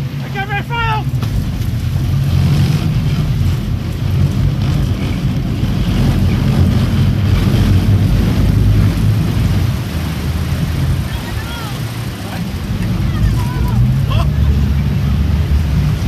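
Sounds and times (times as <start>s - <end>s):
boat engine rumbling: 0.0s - 16.0s
water churning in wake: 0.0s - 16.0s
wind buffeting microphone: 0.0s - 16.0s.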